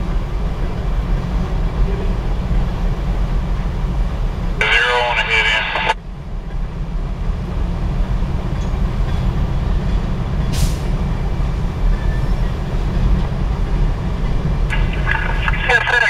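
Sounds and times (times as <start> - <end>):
train wheels rumbling and clattering: 0.0 - 4.6, 6.0 - 15.4.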